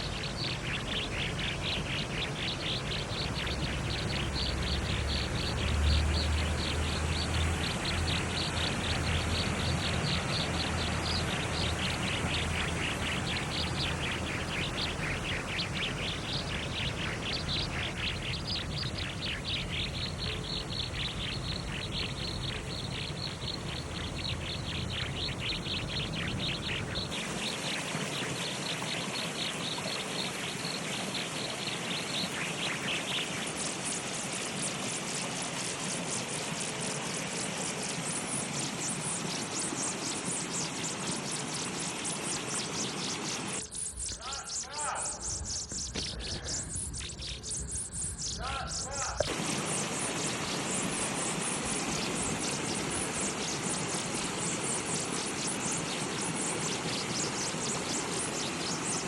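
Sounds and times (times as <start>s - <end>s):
high bird chirps: 0.0s - 33.6s, 38.7s - 59.0s
steady hiss: 0.0s - 59.0s.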